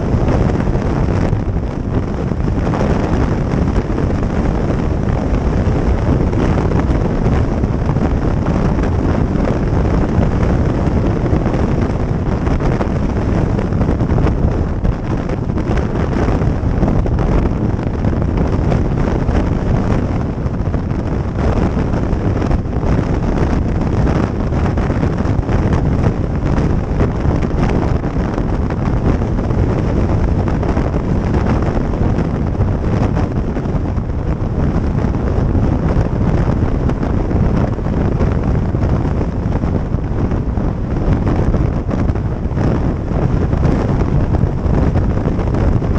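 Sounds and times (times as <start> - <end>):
heavy wind noise on microphone: 0.0 - 45.9
motorcycle running: 0.0 - 45.9.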